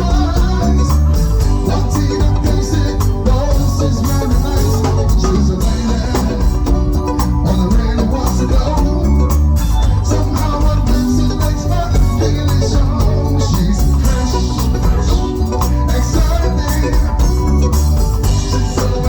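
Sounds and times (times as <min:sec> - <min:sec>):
up-tempo band music with singing: 0:00.0 - 0:19.0.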